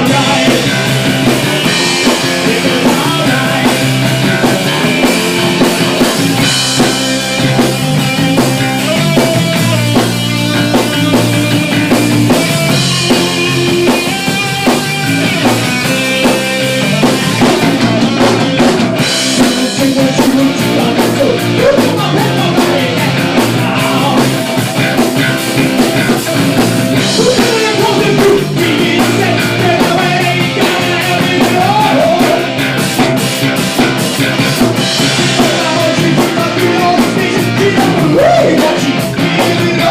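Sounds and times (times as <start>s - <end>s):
driving drum kit: 0.0s - 39.9s
rock band playing: 0.0s - 39.9s.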